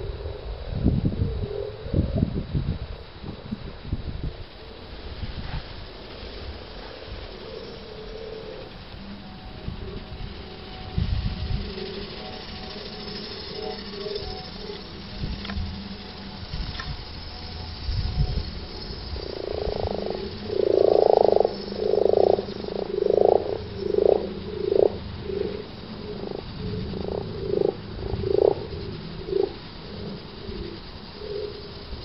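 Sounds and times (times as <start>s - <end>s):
frogs croaking: 0.0s - 32.0s.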